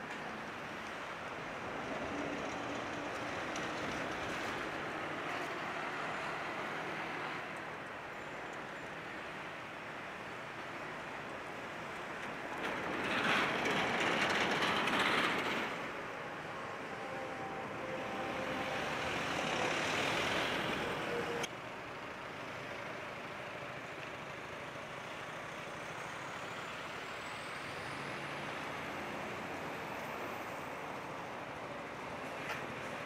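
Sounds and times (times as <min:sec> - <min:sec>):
rumble of traffic: 0:00.0 - 0:33.0.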